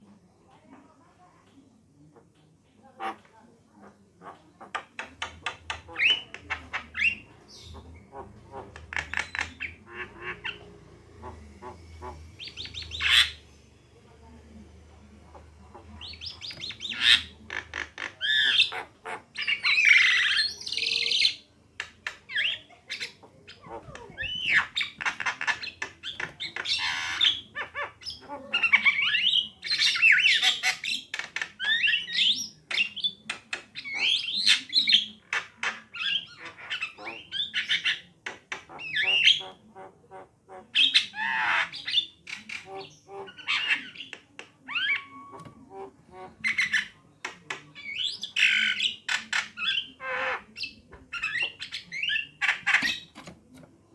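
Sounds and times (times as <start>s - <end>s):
birds squawking and whistling: 5.2s - 13.8s, 15.3s - 39.7s, 40.6s - 53.7s.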